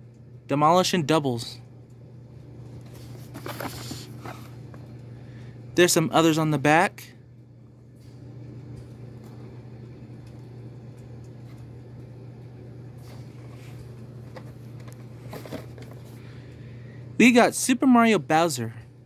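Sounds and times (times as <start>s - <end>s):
low hum: 0.0s - 17.2s.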